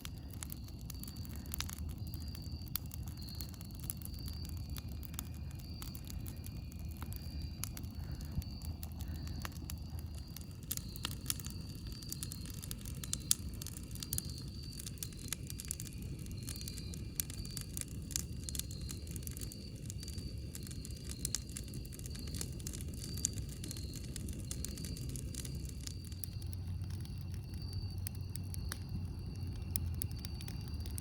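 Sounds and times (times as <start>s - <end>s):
campfire crackling and popping: 0.0s - 31.0s
low rumble of burning fire: 0.0s - 31.0s
faint high-pitched chirp: 0.1s - 31.0s.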